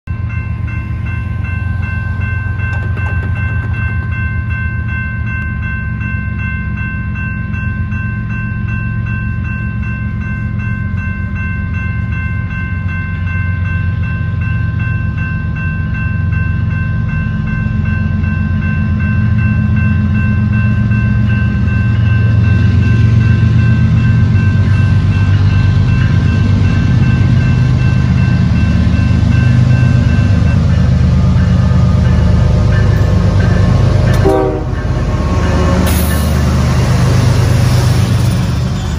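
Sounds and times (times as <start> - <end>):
diesel locomotive rumble: 0.1 - 38.9
railroad crossing bell ringing: 0.1 - 38.9.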